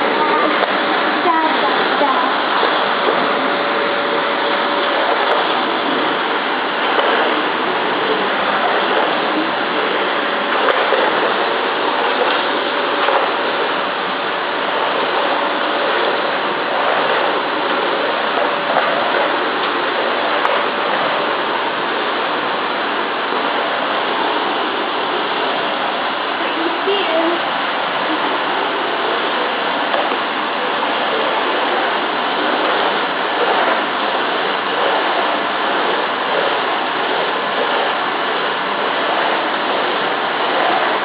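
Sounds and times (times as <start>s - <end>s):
faint steady whine: 0.0s - 41.0s
vacuum cleaner running: 0.0s - 41.0s.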